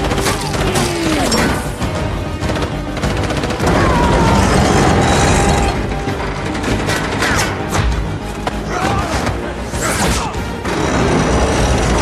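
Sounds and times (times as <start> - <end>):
action film music: 0.0 - 12.0.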